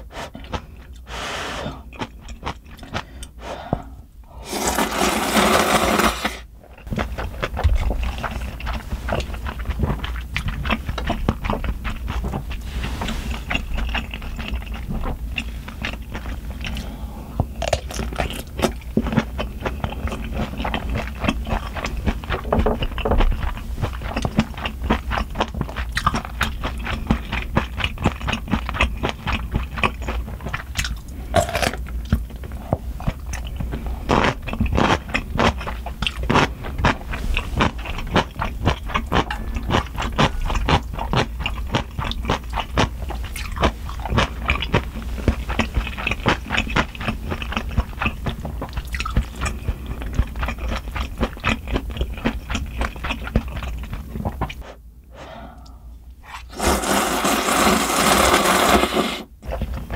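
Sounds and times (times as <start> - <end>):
chewing and crunching food: 0.0 - 3.9, 4.7 - 54.8, 55.5 - 59.9.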